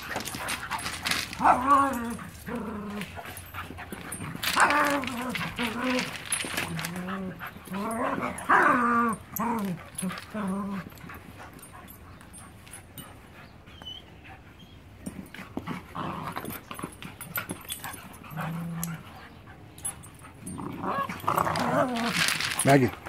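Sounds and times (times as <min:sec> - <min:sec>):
puppies growling: 0:00.0 - 0:13.1, 0:15.0 - 0:23.0
puppies scuffling: 0:00.0 - 0:23.0.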